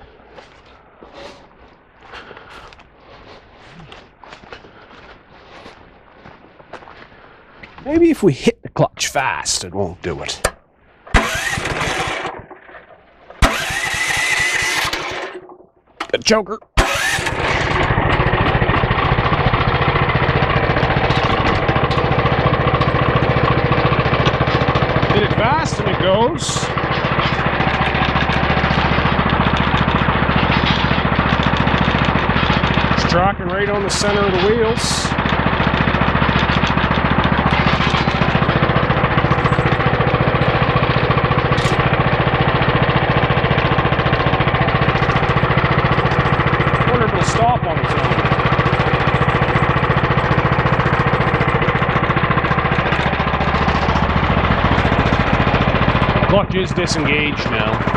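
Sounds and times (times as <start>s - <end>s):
small engine running steadily: 0.0s - 7.8s, 10.4s - 15.8s, 16.8s - 57.9s.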